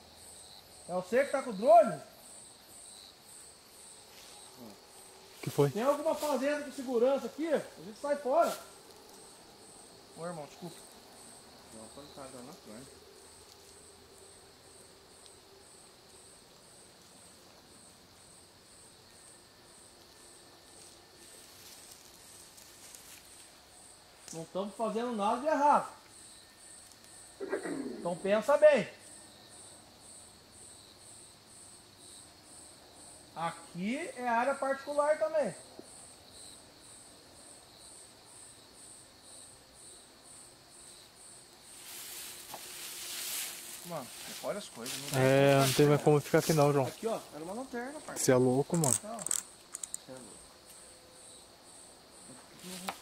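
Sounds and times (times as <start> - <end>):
high-pitched insect trill: 0.0 - 53.0
insect high chirp: 0.0 - 53.0.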